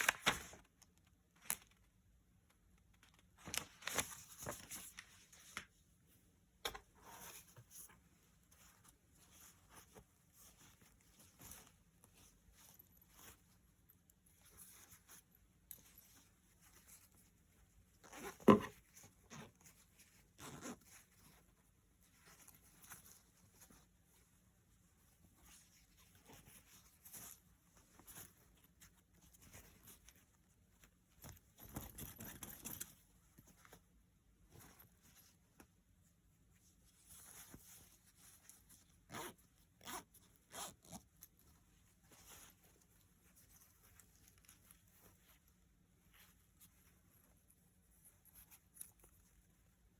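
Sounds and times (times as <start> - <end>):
rustling and handling: 0.0 - 49.9.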